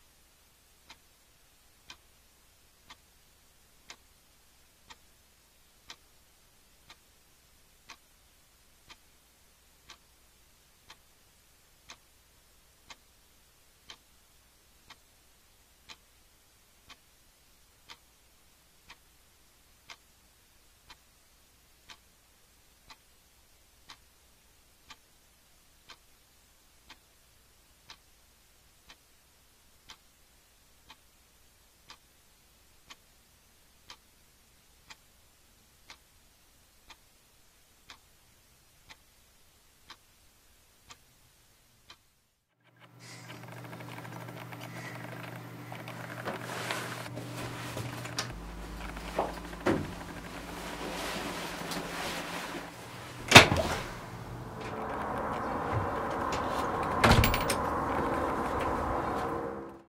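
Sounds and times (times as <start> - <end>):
clock ticking: 0.4 - 1.2, 1.8 - 29.2, 29.8 - 41.1, 42.7 - 59.5.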